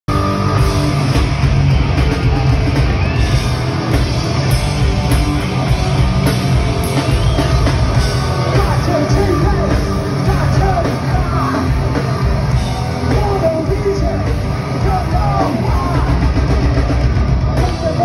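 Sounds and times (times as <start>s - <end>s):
bass guitar: 0.0s - 18.0s
distorted electric guitars: 0.1s - 18.0s
drum kit: 0.1s - 18.0s.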